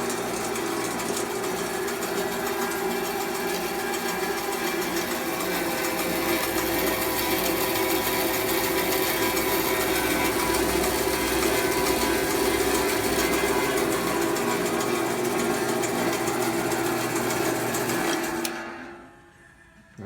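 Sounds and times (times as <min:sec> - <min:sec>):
bandsaw running: 0:00.0 - 0:19.1.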